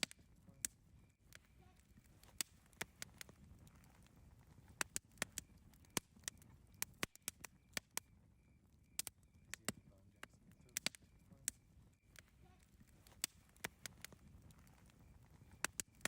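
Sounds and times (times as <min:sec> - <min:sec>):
burning wood popping and snapping: 0:00.0 - 0:16.0
low rumble of fire: 0:00.0 - 0:16.0.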